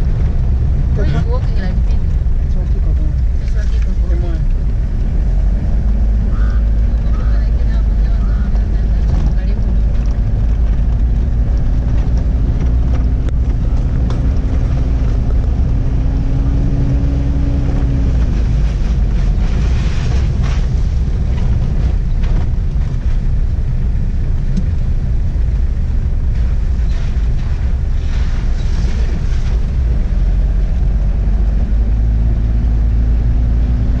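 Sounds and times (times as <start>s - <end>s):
car engine: 0.0s - 34.0s
road noise inside car: 0.0s - 34.0s.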